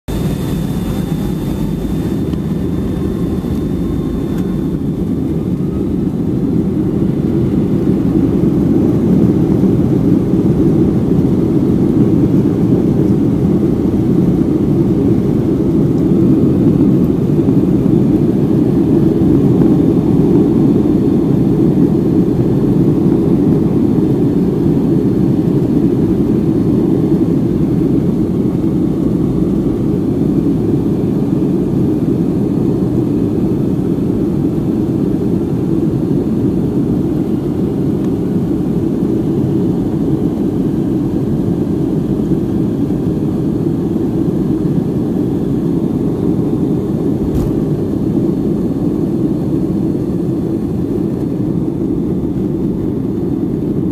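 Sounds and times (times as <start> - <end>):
deep rumble of jet engines: 0.0 - 53.9.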